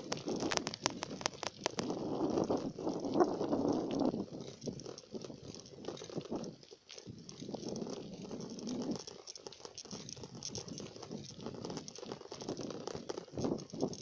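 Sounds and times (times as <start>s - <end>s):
bicycle rattling over road: 0.0s - 14.0s
wind noise on microphone: 0.0s - 14.0s.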